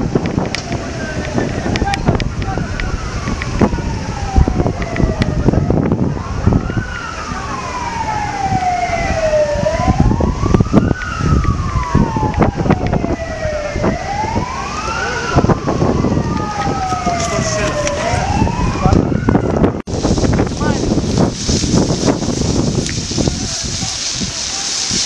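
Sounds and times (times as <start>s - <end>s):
fire engine siren wailing: 0.0s - 25.0s.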